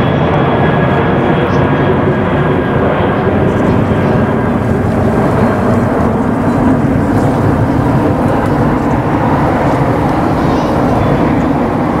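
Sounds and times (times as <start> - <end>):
jet engines passing overhead: 0.0 - 12.0.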